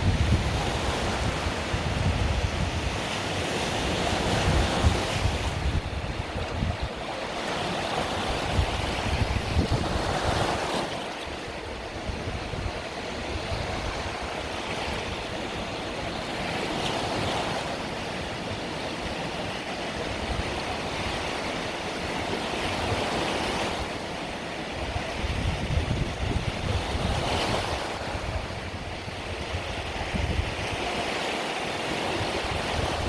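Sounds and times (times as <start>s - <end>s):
small waves washing onto beach: 0.0s - 33.0s.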